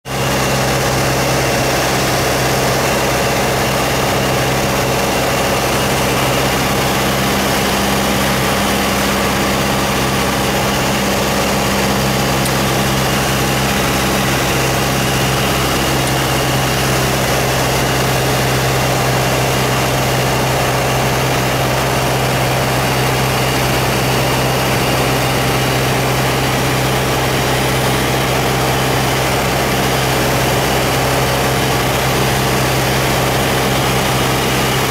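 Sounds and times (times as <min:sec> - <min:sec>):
aircraft engine drone: 0:00.1 - 0:34.9.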